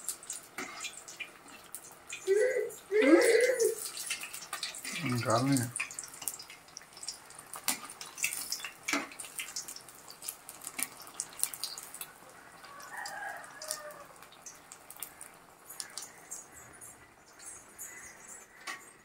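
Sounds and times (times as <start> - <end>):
eggs deep-frying in oil: 0.0 - 19.0.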